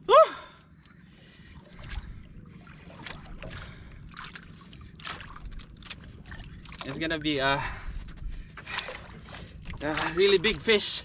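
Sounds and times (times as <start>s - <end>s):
water lapping against boat hull: 0.5s - 11.0s.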